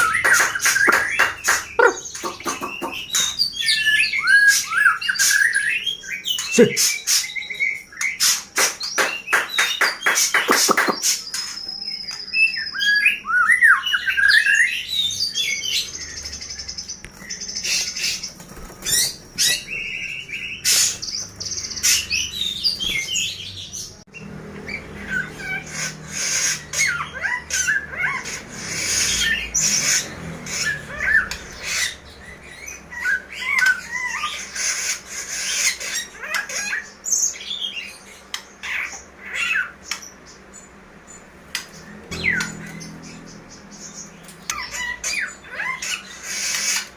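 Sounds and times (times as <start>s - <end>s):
songbirds chirping and warbling: 0.0s - 46.9s.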